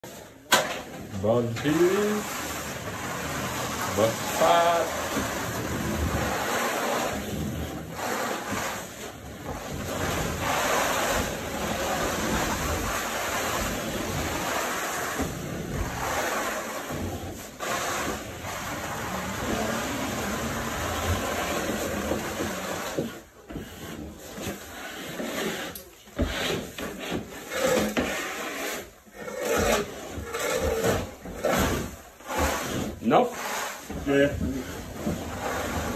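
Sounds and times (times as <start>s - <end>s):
scraper rasping on ceiling: 0.0s - 35.9s.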